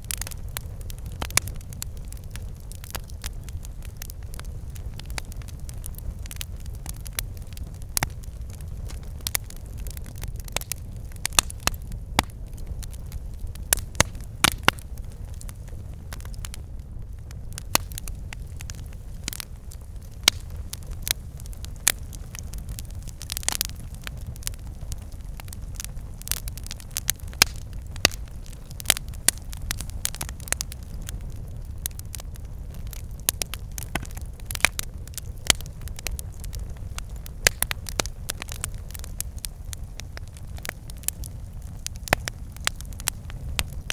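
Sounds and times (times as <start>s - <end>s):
low rumble of flames: 0.0s - 43.9s
wood crackling and popping: 0.0s - 43.9s.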